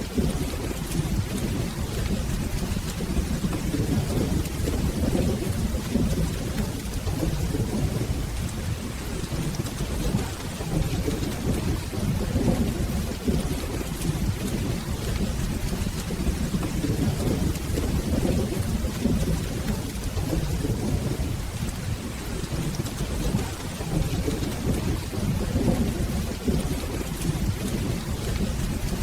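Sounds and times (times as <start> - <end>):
rolling thunder: 0.0 - 29.0
steady rain: 0.0 - 29.0.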